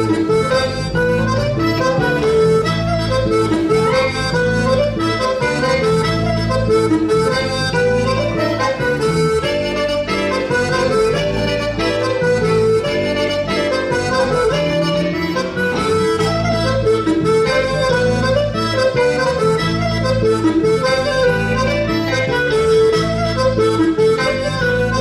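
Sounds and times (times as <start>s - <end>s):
dance tune on reed instruments: 0.0s - 25.0s.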